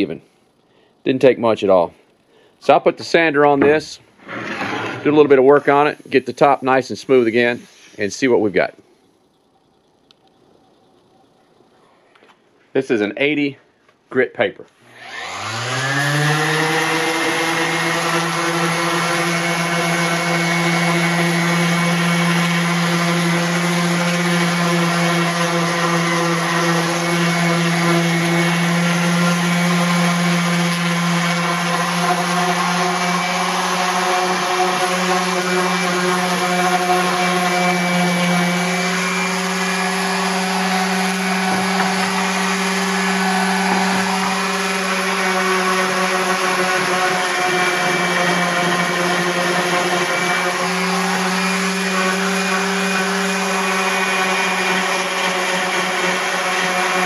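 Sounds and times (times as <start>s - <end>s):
orbital sander sanding wood: 0.0s - 0.4s, 2.6s - 11.9s, 14.9s - 57.0s.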